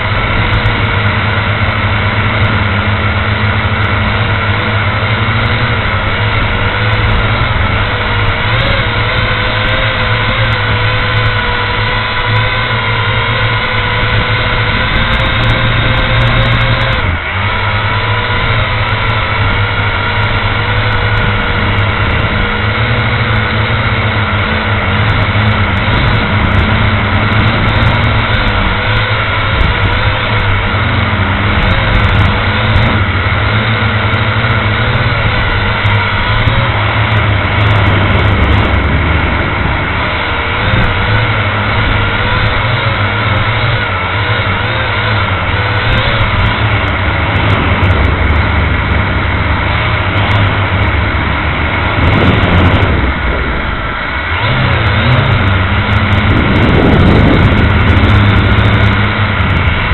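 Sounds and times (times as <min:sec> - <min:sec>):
model aircraft motor whine: 0:00.0 - 0:59.9.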